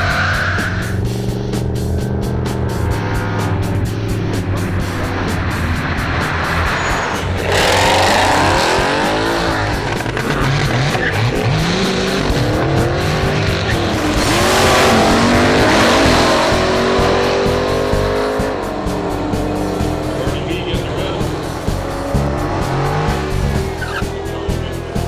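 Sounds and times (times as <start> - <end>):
background music: 0.0 - 25.0
car engine revving hard: 0.0 - 25.0
tires squealing: 0.0 - 25.0.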